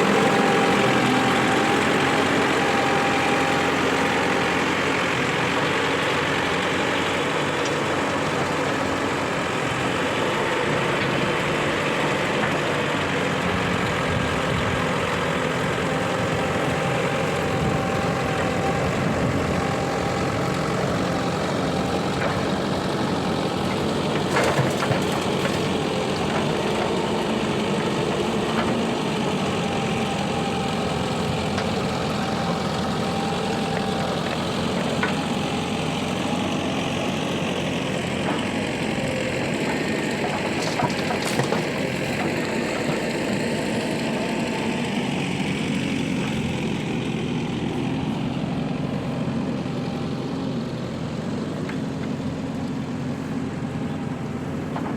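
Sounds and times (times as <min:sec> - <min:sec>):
heavy diesel engines running: 0:00.0 - 0:54.9.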